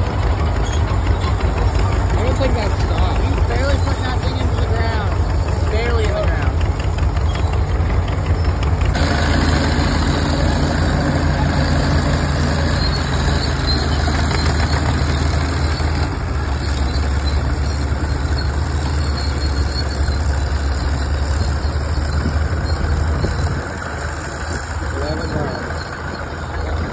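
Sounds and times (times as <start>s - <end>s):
tractor engine droning under load: 0.0s - 26.9s.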